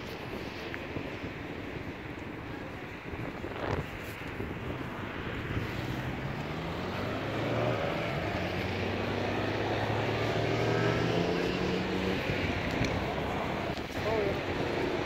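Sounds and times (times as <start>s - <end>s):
street noise: 0.0s - 15.0s
vehicle engine humming: 0.1s - 15.0s.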